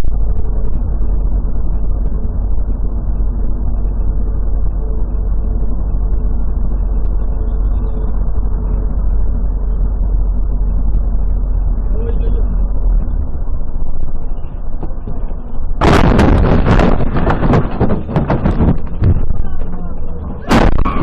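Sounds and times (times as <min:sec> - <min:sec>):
vehicle engine and tyres rumbling: 0:00.0 - 0:21.0.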